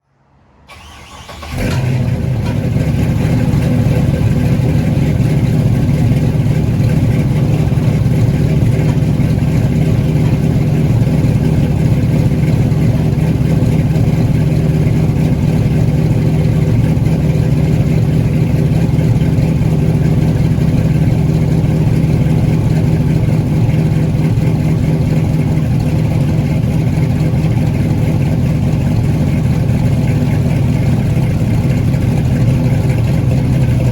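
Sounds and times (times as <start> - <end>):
car engine starting and idling: 0.6 - 33.9.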